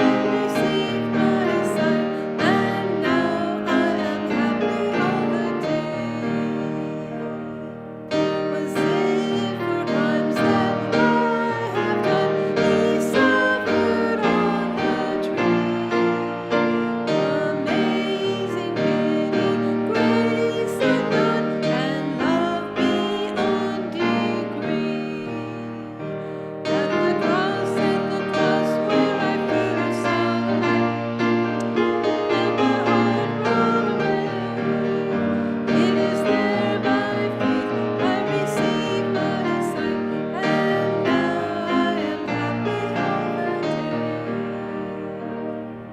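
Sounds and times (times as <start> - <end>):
piano chords: 0.0 - 45.9
voices singing a hymn: 0.0 - 45.9.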